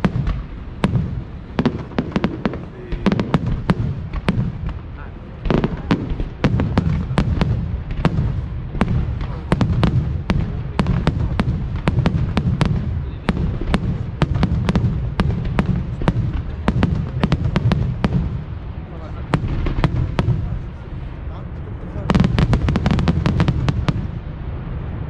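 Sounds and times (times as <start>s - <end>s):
fireworks cracking: 0.0s - 24.9s
low rumble of fireworks bursts: 0.0s - 25.0s.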